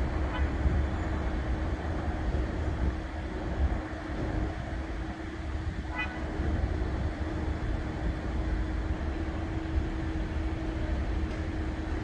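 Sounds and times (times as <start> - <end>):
low city rumble and hiss: 0.0 - 12.0.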